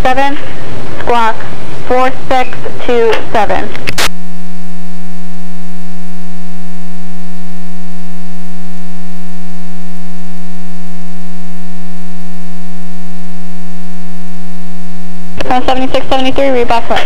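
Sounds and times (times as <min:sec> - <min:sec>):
loud low radio buzz: 0:00.0 - 0:17.0.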